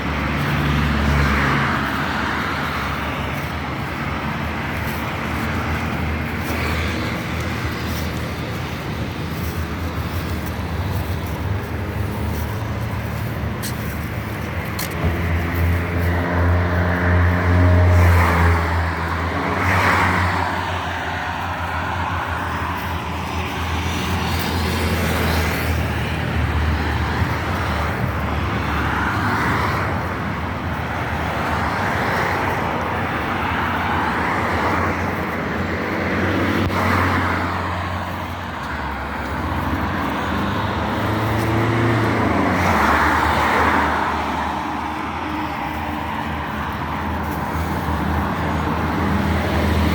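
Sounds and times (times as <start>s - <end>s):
cars passing: 0.0s - 49.9s.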